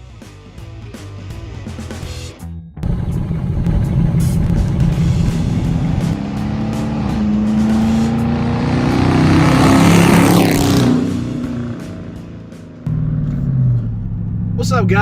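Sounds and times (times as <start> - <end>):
car exhaust accelerating: 2.7 - 15.0.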